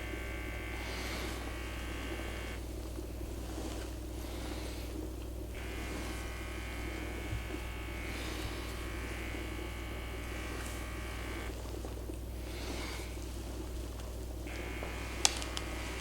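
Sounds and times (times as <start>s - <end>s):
small electric motor buzzing: 0.0s - 2.7s, 3.4s - 16.0s
high steady whine: 0.0s - 16.0s.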